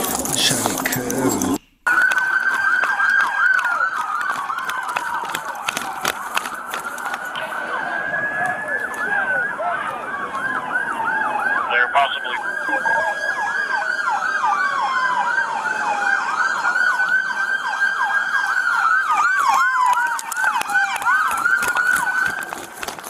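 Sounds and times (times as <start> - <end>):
siren yelping: 1.3 - 22.6
siren wailing: 1.9 - 22.6.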